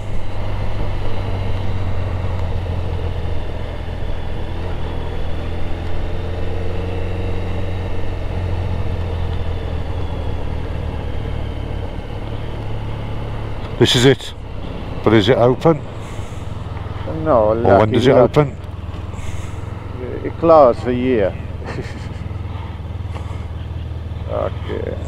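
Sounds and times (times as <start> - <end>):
motorcycle engine droning: 0.0 - 25.0
road noise: 0.0 - 25.0.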